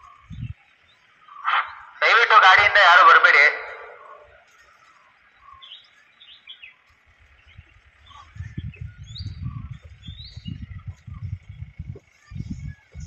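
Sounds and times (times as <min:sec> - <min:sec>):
birds chirping: 0:00.0 - 0:13.0
irregular low rumble: 0:00.0 - 0:13.0.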